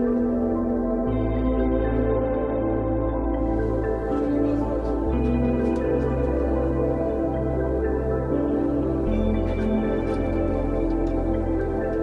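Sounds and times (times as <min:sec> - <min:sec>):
ambient music with pad chords: 0:00.0 - 0:12.0.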